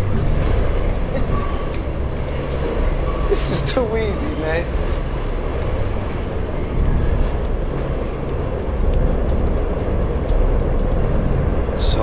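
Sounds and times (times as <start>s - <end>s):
subway car rumbling: 0.0s - 12.0s.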